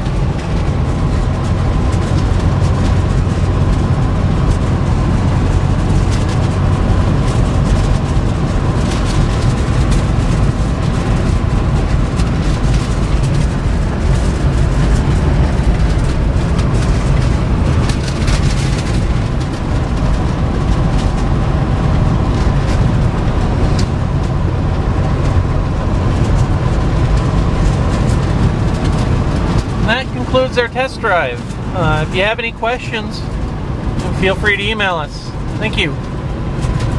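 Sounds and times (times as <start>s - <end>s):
wind on microphone: 0.0s - 32.0s
diesel engine and road rumble: 0.0s - 36.9s.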